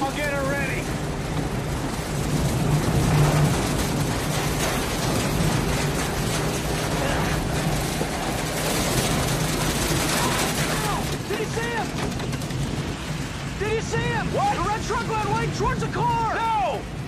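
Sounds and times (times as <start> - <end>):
hail and heavy rain pelting: 0.0 - 17.0.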